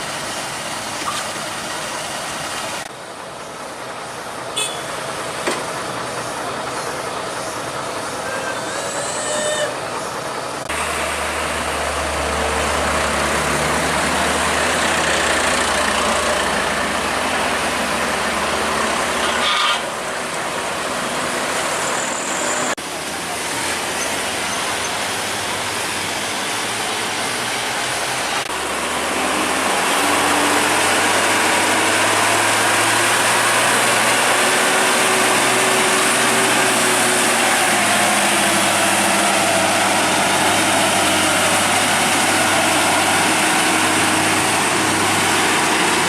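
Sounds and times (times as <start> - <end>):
heavy truck engine and road noise: 0.0 - 46.0.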